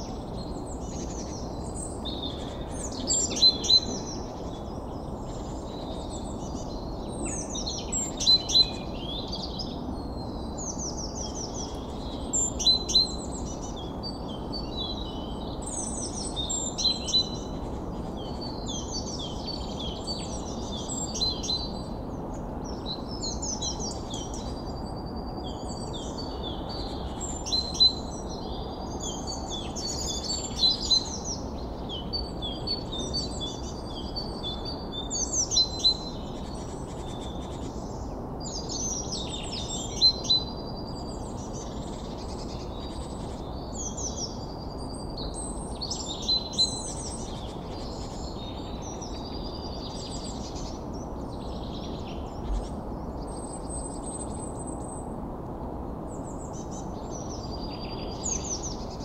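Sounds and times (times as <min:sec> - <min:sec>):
small birds chirping and singing: 0:00.0 - 0:55.2, 0:55.9 - 0:59.0
low background hiss: 0:00.0 - 0:59.0.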